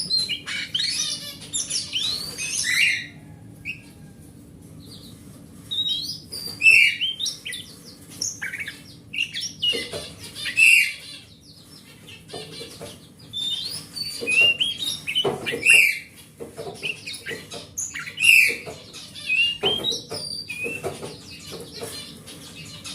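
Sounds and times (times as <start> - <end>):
songbird singing: 0.0 - 4.0, 4.8 - 22.9.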